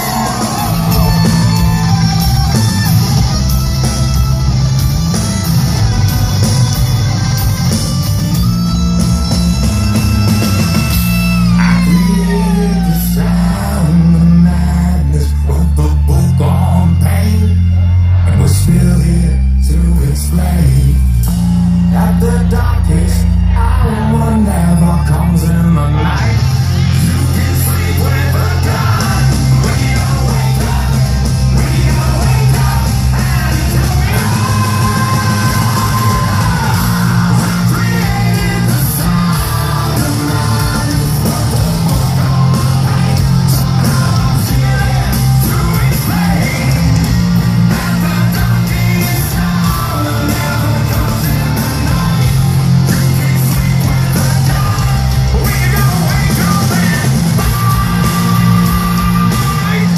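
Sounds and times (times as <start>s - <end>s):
shouted and sung vocals: 0.0s - 3.8s, 10.2s - 59.9s
hard rock song: 0.0s - 59.9s.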